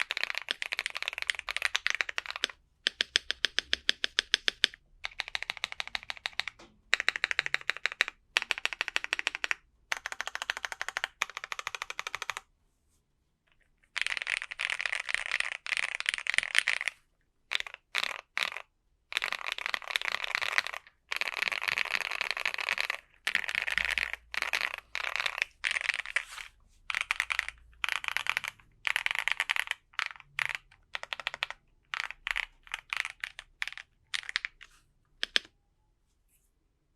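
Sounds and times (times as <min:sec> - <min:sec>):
mechanical keyboard typing: 0:00.0 - 0:12.4, 0:13.9 - 0:26.2, 0:26.9 - 0:35.5.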